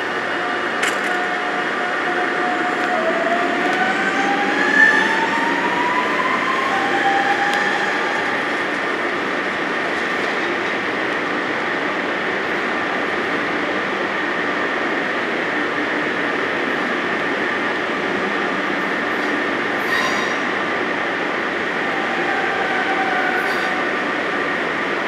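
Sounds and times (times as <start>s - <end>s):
rail running noise: 0.0s - 25.0s
train traction motors whining: 0.0s - 25.0s.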